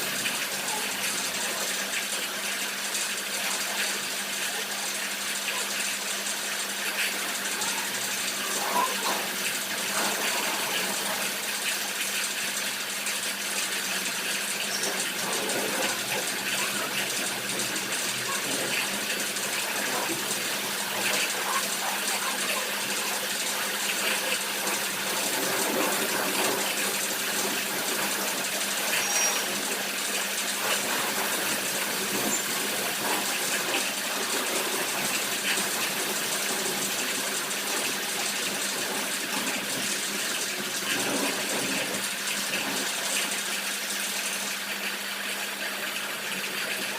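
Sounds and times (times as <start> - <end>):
pressure washer spraying water: 0.0 - 46.8.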